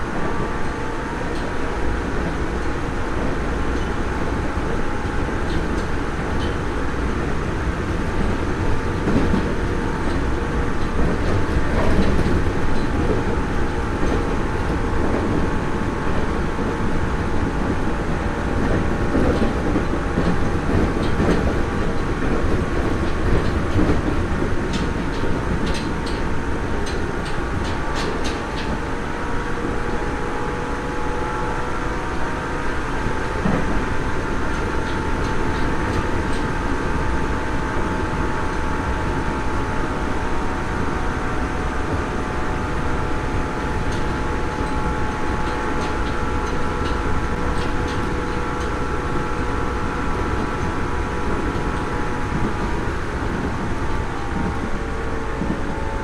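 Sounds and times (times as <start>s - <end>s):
train wheel and rail rumble: 0.0s - 56.0s.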